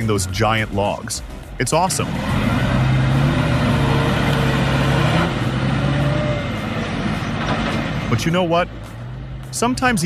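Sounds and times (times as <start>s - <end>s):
heavy diesel engine under load: 0.0s - 10.0s.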